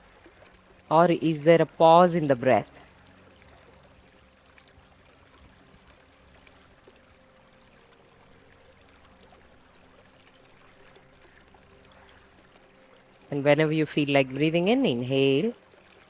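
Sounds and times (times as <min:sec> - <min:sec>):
stream flowing over stones: 0:00.0 - 0:16.0.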